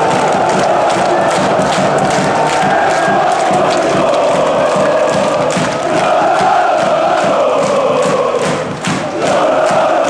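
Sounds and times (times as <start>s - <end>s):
crowd chanting in unison: 0.0s - 10.0s.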